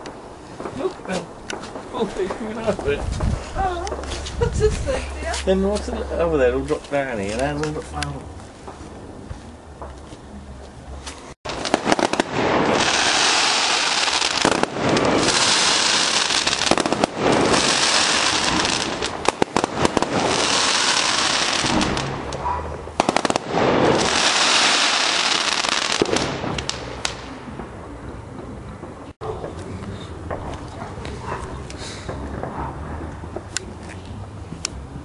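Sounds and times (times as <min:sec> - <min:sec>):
fireworks bangs: 0:00.0 - 0:33.8
fireworks crackling and hissing: 0:00.0 - 0:35.0.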